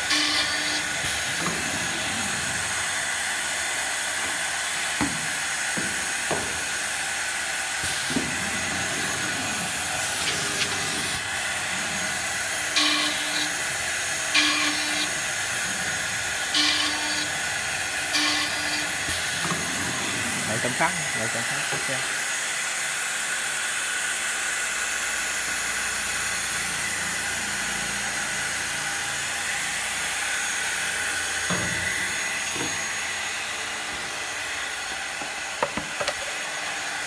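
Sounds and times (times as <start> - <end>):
drilling machine hissing: 0.0 - 35.7
drill bit whirring: 0.0 - 37.0.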